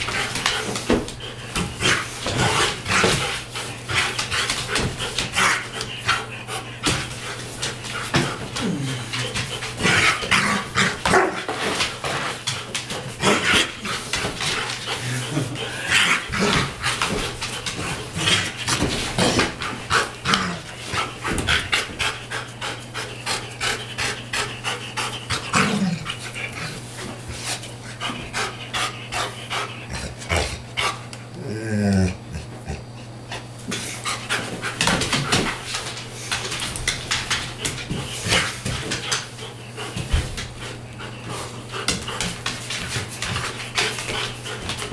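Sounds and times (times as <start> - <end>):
dog panting hard: 0.0 - 11.0, 11.6 - 31.2, 37.6 - 44.9.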